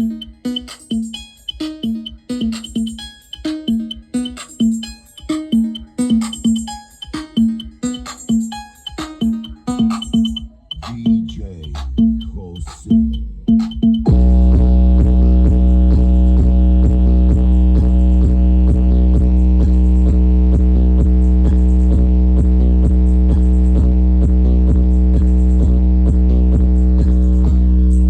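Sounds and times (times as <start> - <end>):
electronic music with deep bass: 0.0 - 28.0.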